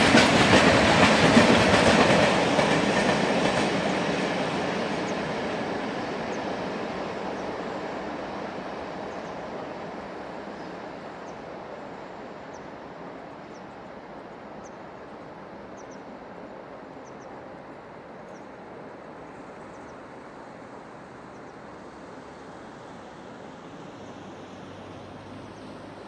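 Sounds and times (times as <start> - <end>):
freight train rumble: 0.0 - 26.0.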